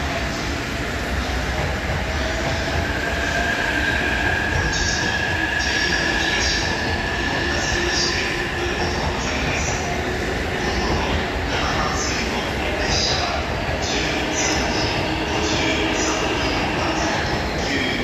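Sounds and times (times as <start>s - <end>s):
train wheels squealing on rails: 1.4s - 18.0s.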